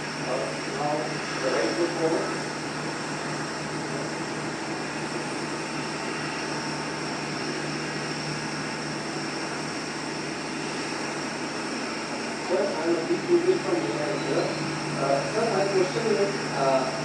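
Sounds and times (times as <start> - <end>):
faint high whine: 0.0 - 17.0
mechanical drone low hum: 0.0 - 17.0.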